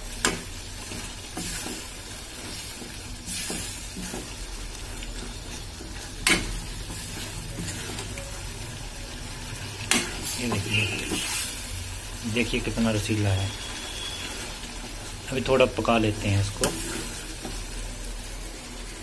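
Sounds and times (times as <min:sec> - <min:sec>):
gravy sizzling in pot: 0:00.0 - 0:19.0.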